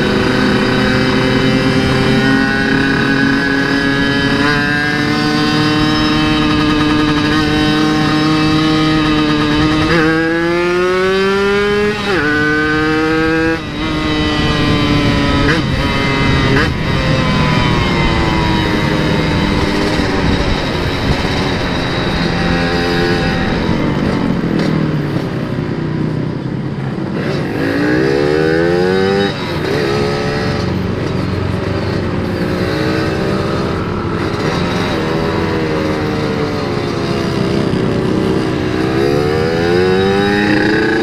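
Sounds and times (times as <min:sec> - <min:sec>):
two-stroke motorcycle engine revving: 0:00.0 - 0:41.0.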